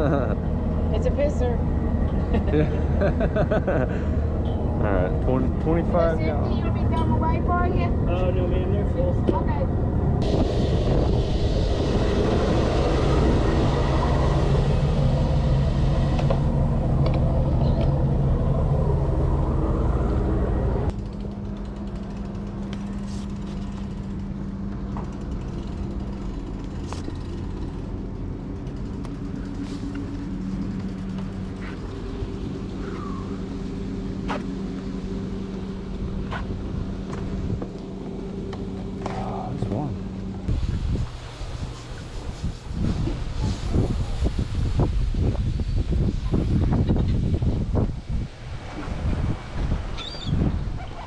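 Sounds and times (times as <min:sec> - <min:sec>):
engine humming: 0:00.0 - 0:43.4.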